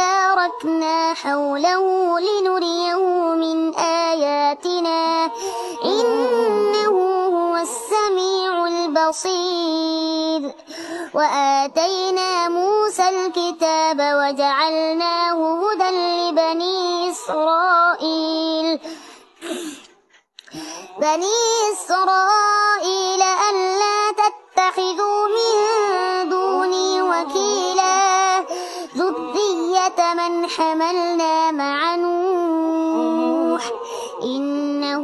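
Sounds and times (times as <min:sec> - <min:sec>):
boy reciting melodically: 0:00.0 - 0:19.6, 0:20.5 - 0:35.0.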